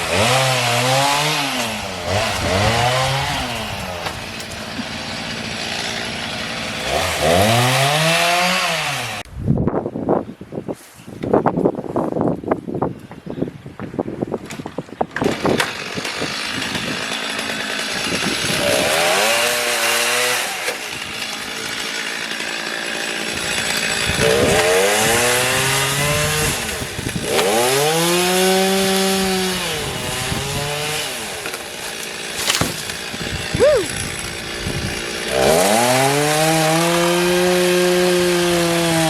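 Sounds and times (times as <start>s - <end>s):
chainsaw engine revving: 0.0s - 9.2s, 15.2s - 39.0s.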